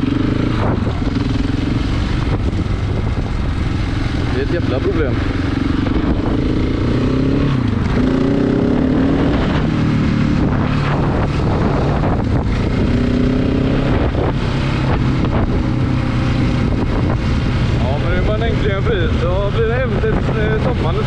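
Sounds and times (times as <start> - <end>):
motorcycle engine accelerating: 0.0 - 21.0
wind noise on microphone: 0.0 - 21.0.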